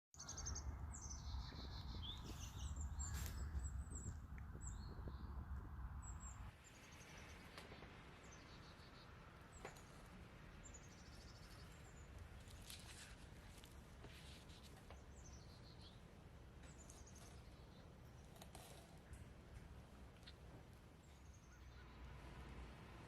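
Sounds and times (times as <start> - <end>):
birds chirping: 0.2 - 22.2.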